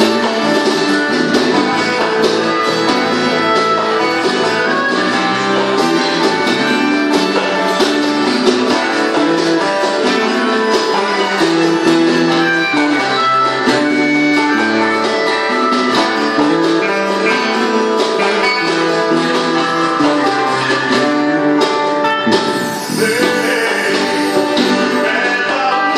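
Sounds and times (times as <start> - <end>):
guitar music: 0.0 - 25.9.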